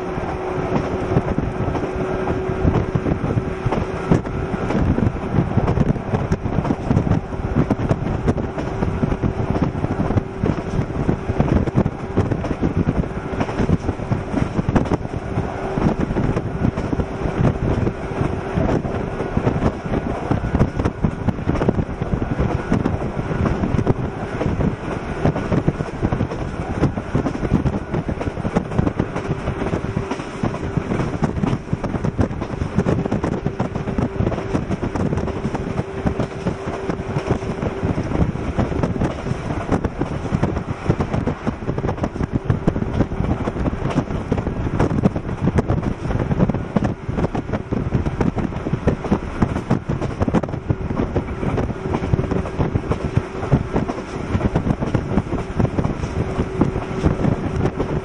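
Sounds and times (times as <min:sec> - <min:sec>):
electric train running: 0:00.0 - 0:58.0
wind buffeting microphone: 0:00.0 - 0:58.0.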